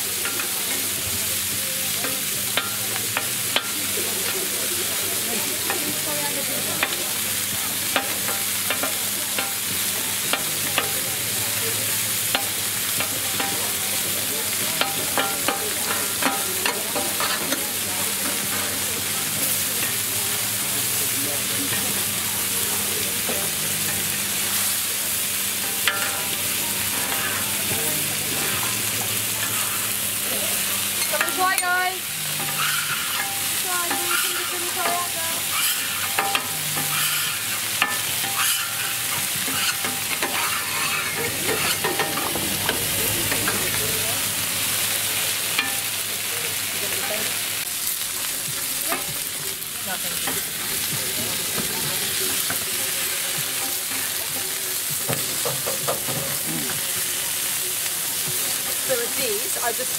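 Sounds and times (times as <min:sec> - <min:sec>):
chicken sizzling on griddle: 0:00.0 - 0:59.9.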